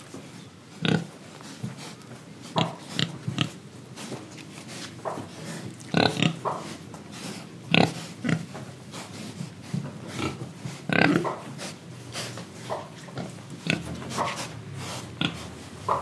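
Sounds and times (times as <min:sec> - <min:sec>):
pigs grunting: 0:00.7 - 0:03.9, 0:04.7 - 0:09.1, 0:10.0 - 0:16.0.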